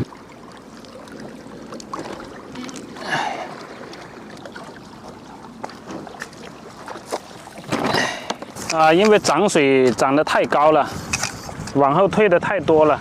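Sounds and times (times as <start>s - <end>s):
water at the bank: 0.0s - 13.0s.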